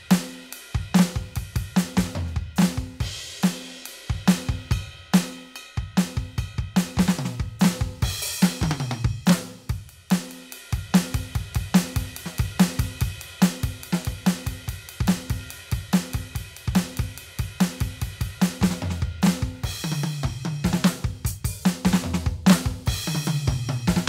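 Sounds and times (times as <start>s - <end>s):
electronic drum groove: 0.0s - 24.0s.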